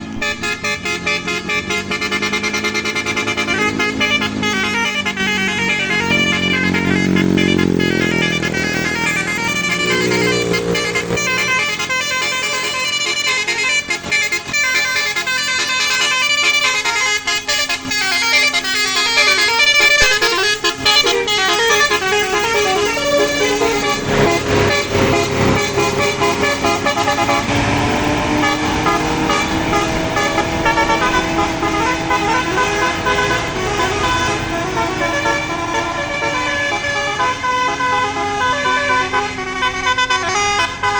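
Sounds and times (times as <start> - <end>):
bus engine: 0.0 - 40.9
musical air horn playing a tune: 0.0 - 40.9.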